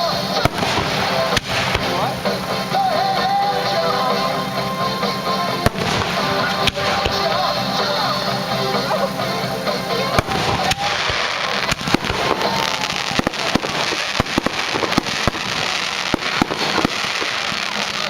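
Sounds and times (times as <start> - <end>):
firework shells bursting: 0.0 - 18.0
fireworks crackling: 0.0 - 18.0.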